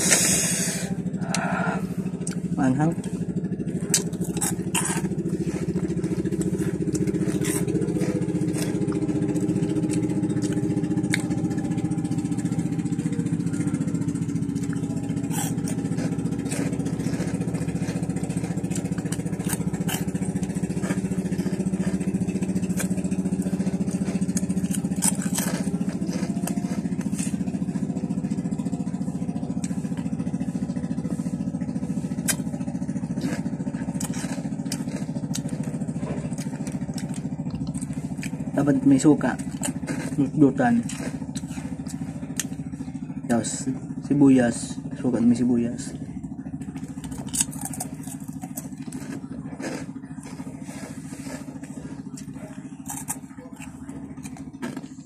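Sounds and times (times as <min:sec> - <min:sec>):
engine idling: 0:00.0 - 0:55.0
snacks crunching and chewed: 0:00.0 - 0:55.0.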